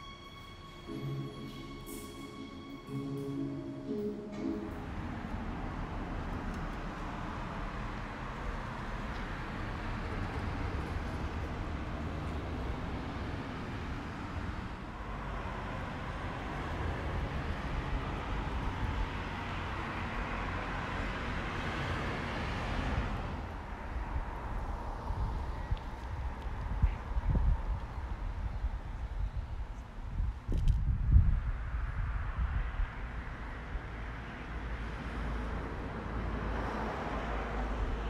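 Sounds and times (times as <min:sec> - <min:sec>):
vehicles going by: 0:00.0 - 0:38.0.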